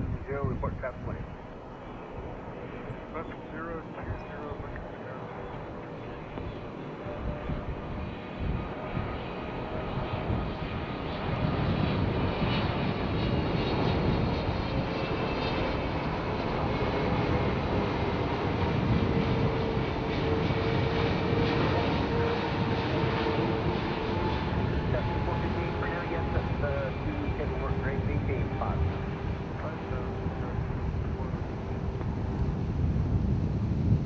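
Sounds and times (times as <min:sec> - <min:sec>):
jet engine rumble: 0:00.0 - 0:34.0
jet engine whine: 0:00.0 - 0:34.0.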